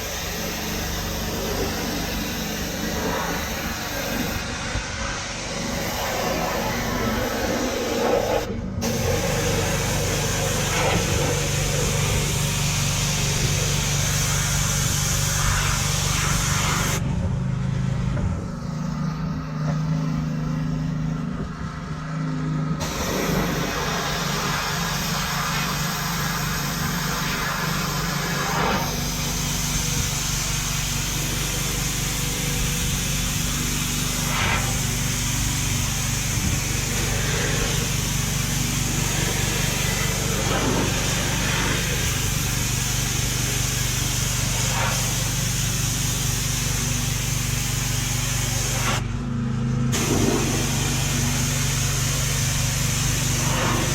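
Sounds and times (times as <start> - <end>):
pressure washer jet hissing: 0.0 - 17.0, 22.8 - 49.1, 49.9 - 53.9
pressure washer motor humming: 0.0 - 53.9.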